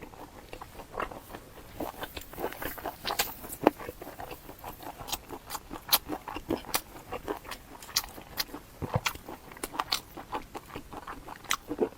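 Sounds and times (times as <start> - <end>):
person chewing: 0.0 - 11.9.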